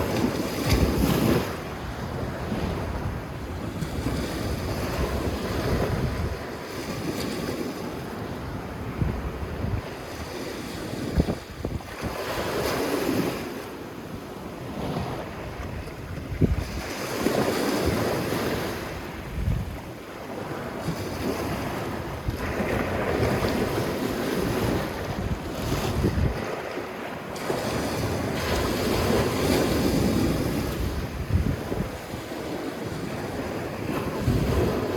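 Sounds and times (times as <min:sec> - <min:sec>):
wind buffeting microphone: 0:00.0 - 0:13.4, 0:14.6 - 0:34.9
waves washing onto sandy beach: 0:00.0 - 0:34.9.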